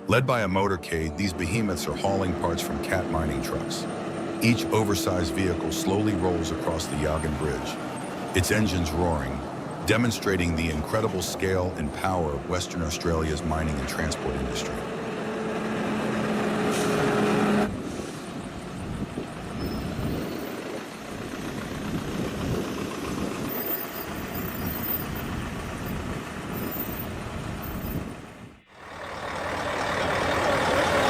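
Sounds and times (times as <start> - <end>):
road and tyre noise: 0.0 - 31.0
trucks driving past: 0.0 - 31.0.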